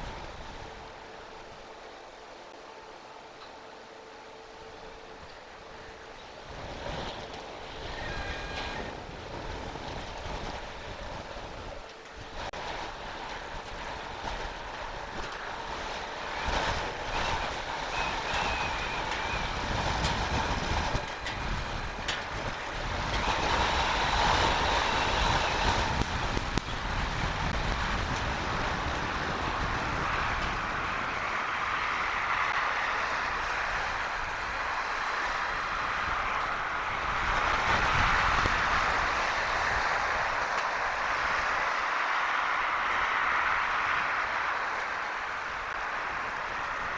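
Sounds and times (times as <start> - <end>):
strong wind buffeting microphone: 0.0 - 46.9.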